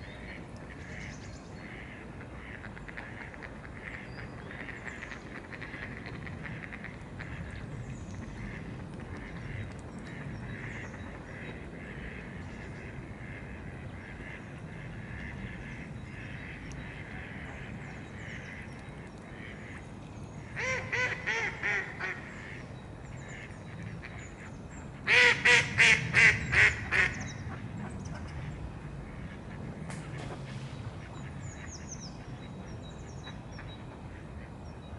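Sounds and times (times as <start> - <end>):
low background noise: 0.0 - 34.9.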